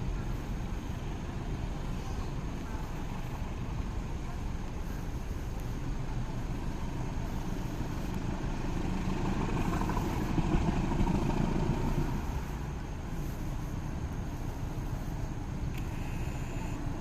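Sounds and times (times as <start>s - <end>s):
motorcycle engines running: 0.0s - 17.0s
road traffic: 0.0s - 17.0s.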